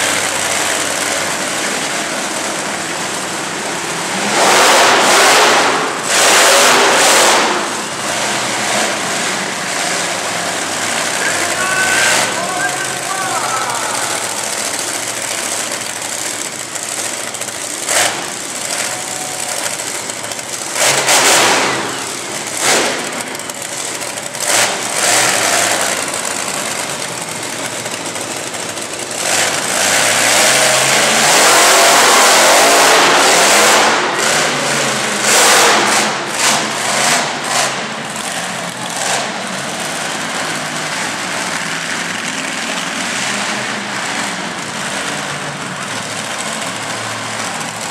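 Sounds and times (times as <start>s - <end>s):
monster truck engine revving: 0.0s - 47.9s.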